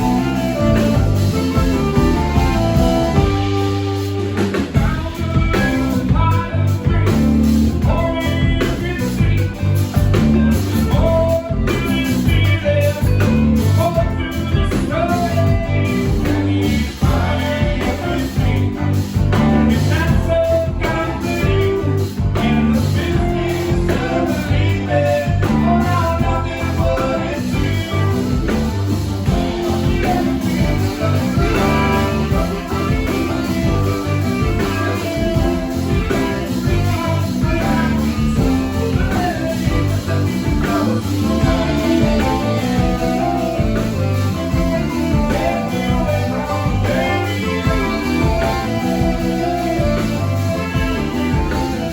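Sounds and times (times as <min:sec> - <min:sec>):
live blues-rock band: 0:00.0 - 0:51.9
person singing: 0:00.0 - 0:51.9.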